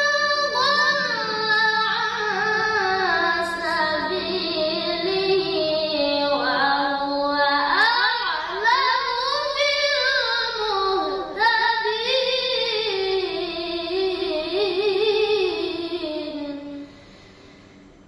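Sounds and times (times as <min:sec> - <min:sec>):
boy reciting melodically: 0:00.0 - 0:16.9.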